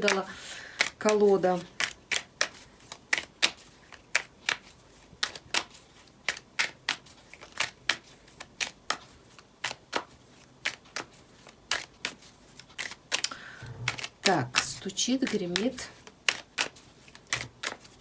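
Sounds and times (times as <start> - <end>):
cards being shuffled: 0.0 - 18.0.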